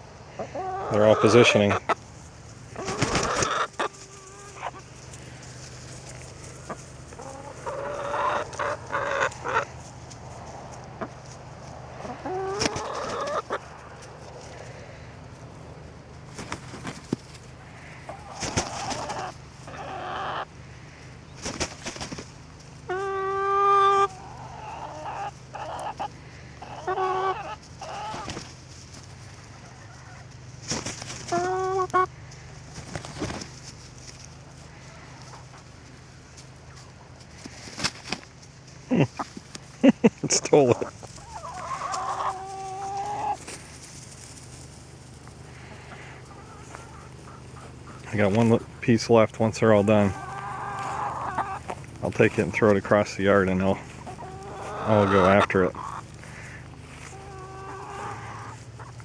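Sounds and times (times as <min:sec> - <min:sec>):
hens clucking and squawking: 0:00.0 - 0:59.0.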